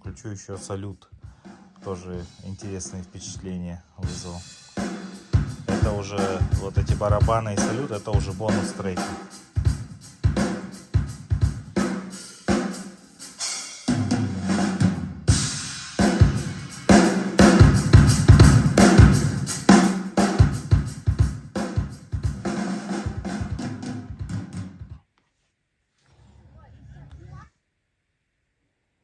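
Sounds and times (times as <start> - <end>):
drum kit over loudspeakers: 0.0 - 25.0.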